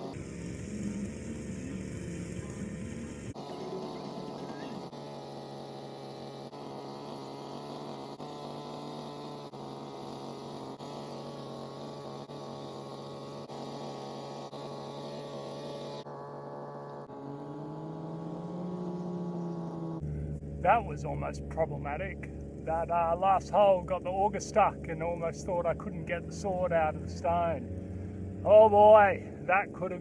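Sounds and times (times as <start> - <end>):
small petrol engine humming: 0.0 - 30.0.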